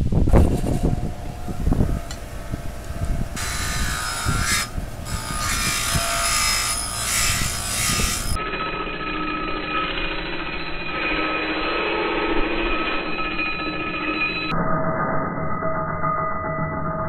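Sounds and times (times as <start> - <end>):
steady tones: 0.0 - 14.5
bench grinder grinding metal: 0.3 - 14.5.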